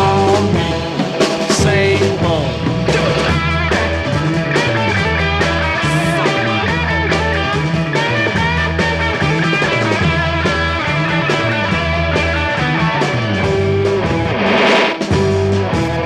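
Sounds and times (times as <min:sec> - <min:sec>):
electric guitar notes: 0:00.0 - 0:16.0
repeating bass line: 0:00.0 - 0:16.0.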